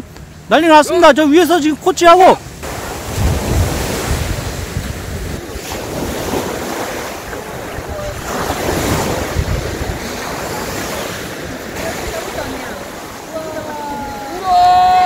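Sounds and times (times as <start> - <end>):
surf washing on shore: 0.0 - 15.0
wind buffeting microphone: 2.6 - 15.0.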